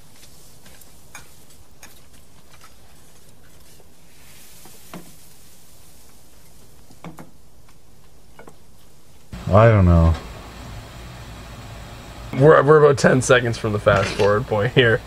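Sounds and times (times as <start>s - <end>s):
steady low hiss: 2.8s - 15.0s.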